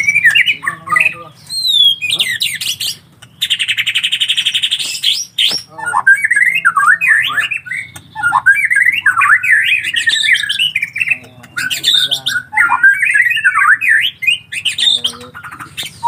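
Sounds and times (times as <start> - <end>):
bird chirping and warbling: 0.0 - 16.0.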